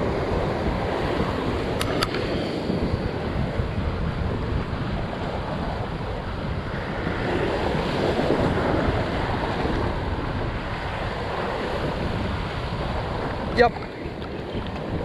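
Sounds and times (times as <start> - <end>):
ocean swell surging over rocks: 0.0 - 15.0
wind buffeting microphone: 0.0 - 15.0.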